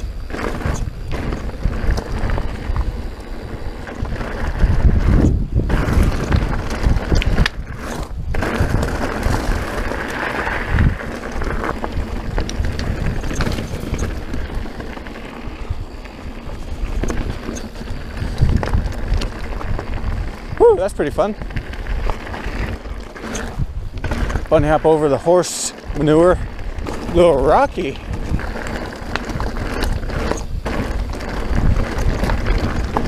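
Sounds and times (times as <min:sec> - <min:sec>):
bike rattling over rocks: 0:00.0 - 0:33.0
tyres crunching on gravel: 0:00.0 - 0:33.0
wind buffeting microphone: 0:00.0 - 0:33.0.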